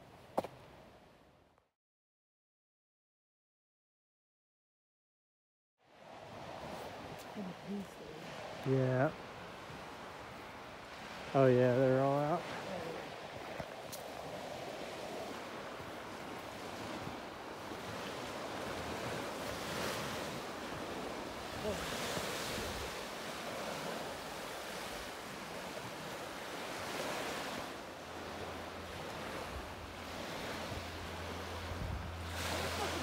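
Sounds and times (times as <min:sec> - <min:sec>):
waves washing on shore: 0:05.9 - 0:33.0
wind blowing across microphone: 0:05.9 - 0:33.0.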